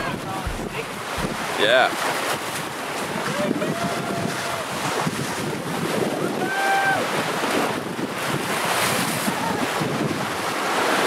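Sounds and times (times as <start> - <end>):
water rushing and splashing: 0.0 - 11.0
wind buffeting microphone: 0.0 - 11.0.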